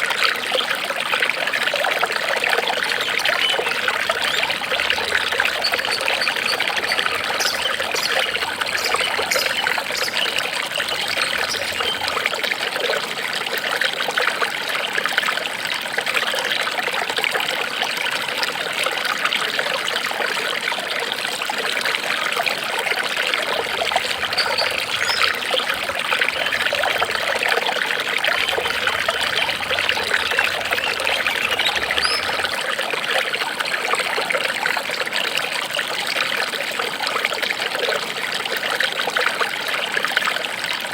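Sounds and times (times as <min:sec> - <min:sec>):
water trickling over stones: 0:00.0 - 0:40.9.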